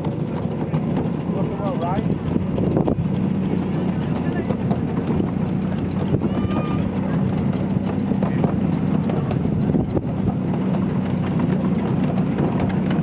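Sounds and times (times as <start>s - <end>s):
miniature train wheels rumbling: 0.0s - 13.0s
wheels clicking over rails: 0.0s - 13.0s.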